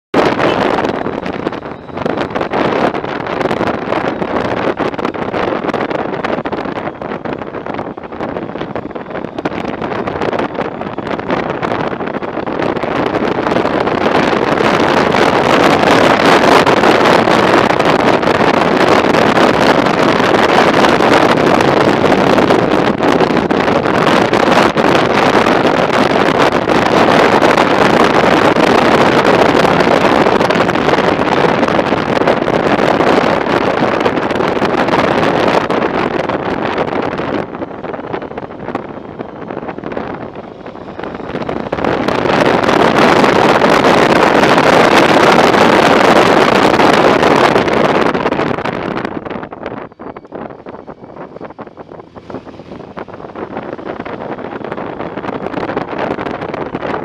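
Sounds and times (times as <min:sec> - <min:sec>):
motorcycle engine and road noise: 0:00.1 - 0:57.0
wind buffeting microphone: 0:00.1 - 0:57.0.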